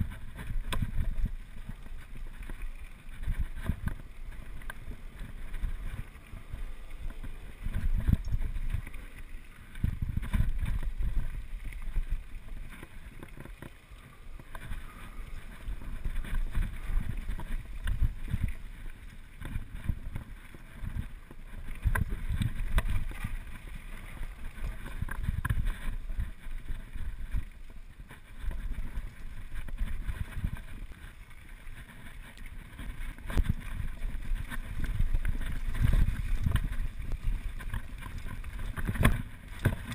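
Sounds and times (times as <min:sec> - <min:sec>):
wind buffeting microphone: 0:00.0 - 0:27.6, 0:31.8 - 0:39.9.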